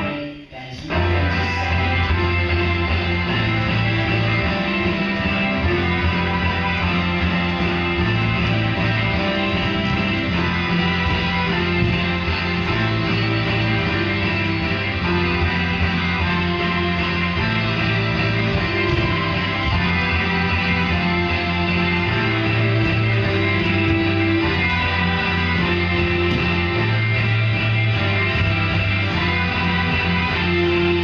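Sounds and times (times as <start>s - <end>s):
guitar music: 0.0s - 31.0s.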